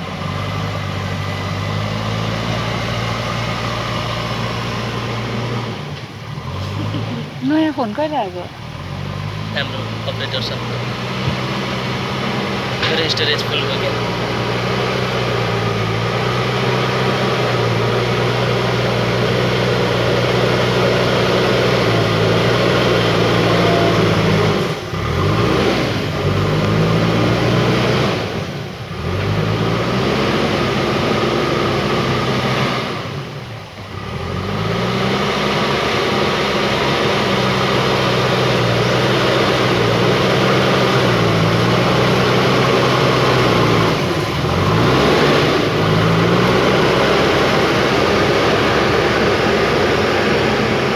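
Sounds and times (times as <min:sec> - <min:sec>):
backhoe diesel engine revving: 0:00.0 - 0:50.9.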